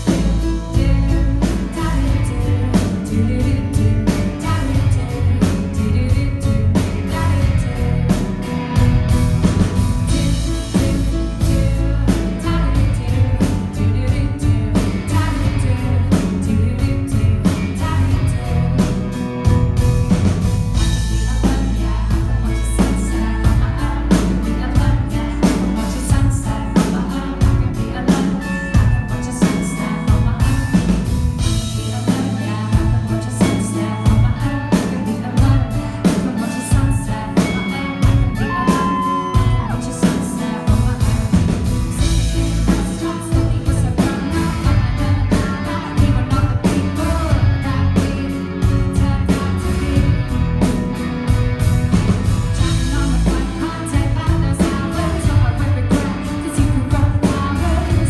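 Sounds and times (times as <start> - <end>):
live pop-rock band: 0.0 - 58.0
woman singing lead: 0.0 - 58.0.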